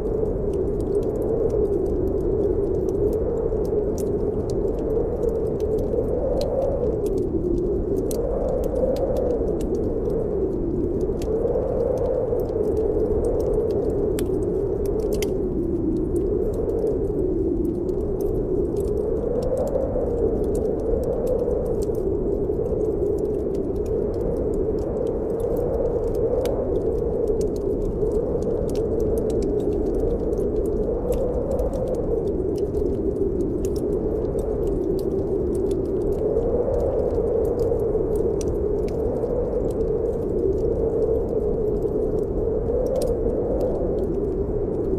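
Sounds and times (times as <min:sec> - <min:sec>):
snowstorm wind blowing: 0:00.0 - 0:44.9
wood fire crackling: 0:00.0 - 0:44.9.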